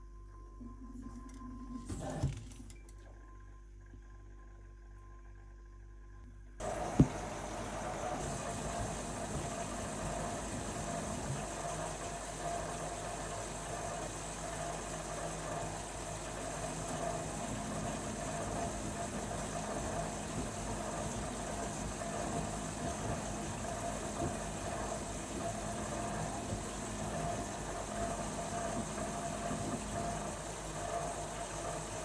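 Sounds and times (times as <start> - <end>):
washing machine humming: 0.9 - 3.0, 6.5 - 32.0.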